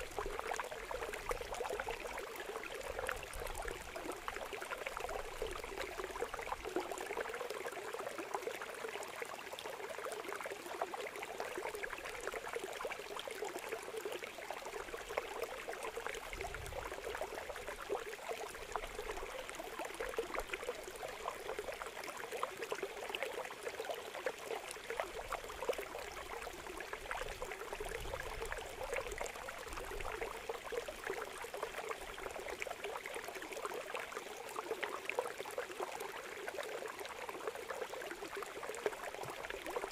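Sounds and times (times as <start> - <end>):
shallow water trickling: 0.0 - 39.9.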